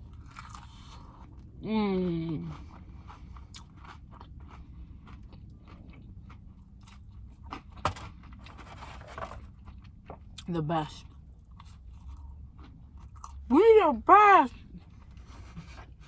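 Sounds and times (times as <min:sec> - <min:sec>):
chewing crunchy fried food: 0:00.0 - 0:01.6, 0:02.2 - 0:13.5, 0:14.6 - 0:16.0.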